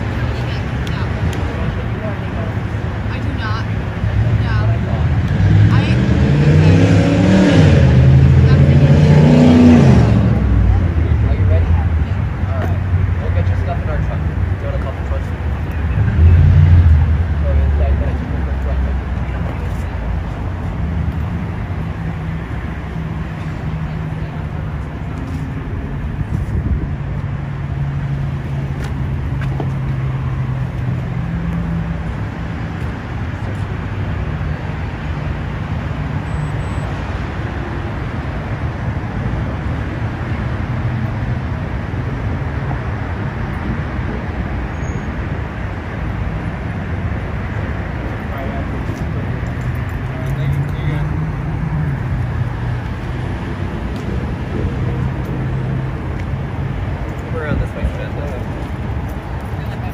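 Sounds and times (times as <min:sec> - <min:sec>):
low rumble of vehicle noise: 0:00.0 - 0:59.9.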